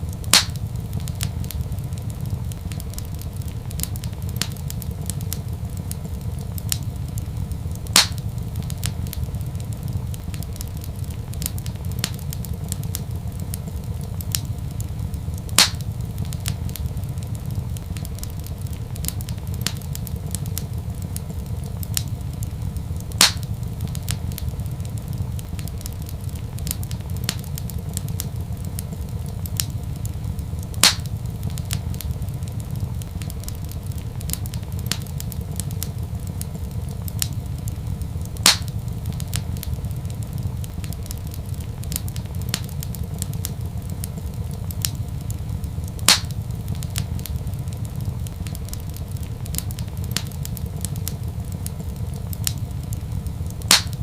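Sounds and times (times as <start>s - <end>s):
loud fire pops: 0.0s - 54.0s
low fire rumble: 0.0s - 54.0s
wood fire crackling: 0.0s - 54.0s.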